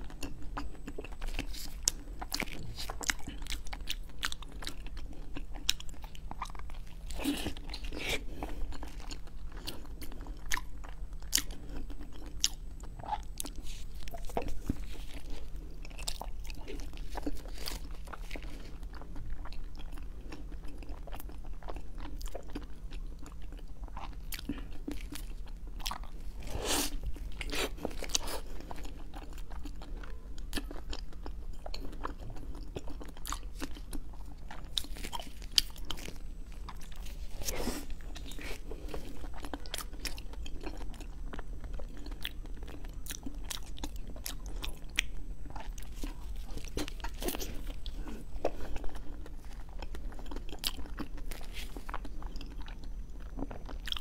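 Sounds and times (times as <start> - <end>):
biting and chewing soft cake: 0.0 - 54.0.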